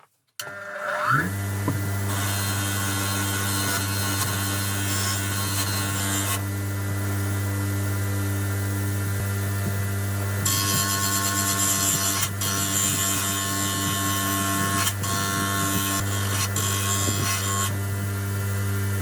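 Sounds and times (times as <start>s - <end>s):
small power tool motor hum: 0.4s - 19.0s.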